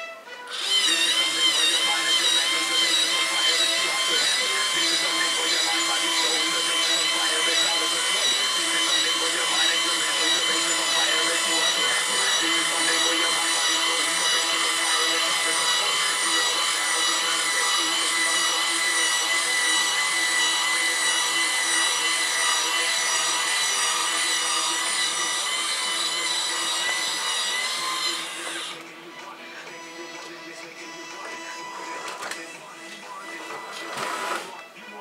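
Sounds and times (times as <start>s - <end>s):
small electric motor whining: 0.4s - 34.7s.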